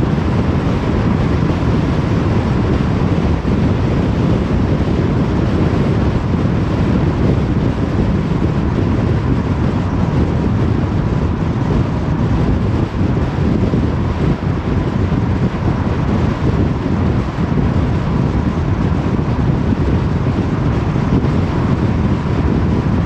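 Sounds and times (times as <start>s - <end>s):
car tyre and wind noise: 0.0s - 23.0s.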